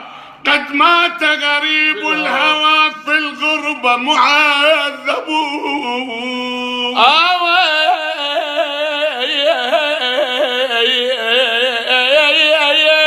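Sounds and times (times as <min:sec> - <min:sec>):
person singing without words: 0:00.4 - 0:13.0.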